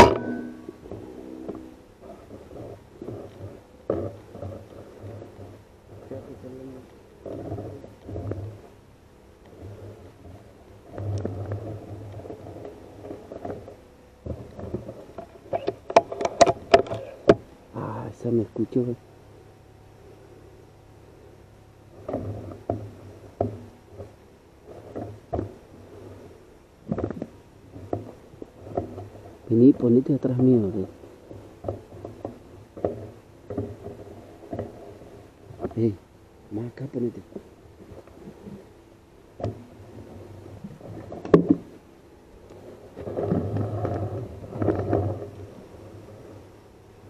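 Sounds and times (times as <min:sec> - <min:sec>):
rumbling and rubbing: 0:00.0 - 0:47.0
steady low hum: 0:00.0 - 0:47.0.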